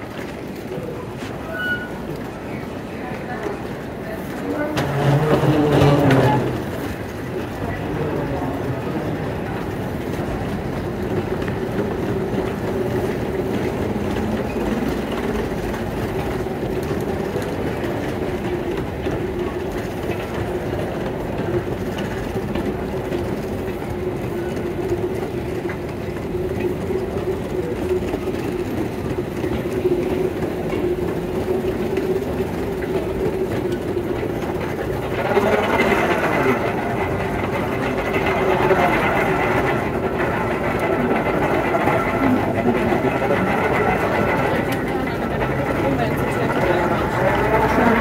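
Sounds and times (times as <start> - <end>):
moving walkway rumble and rattle: 0.0 - 48.0.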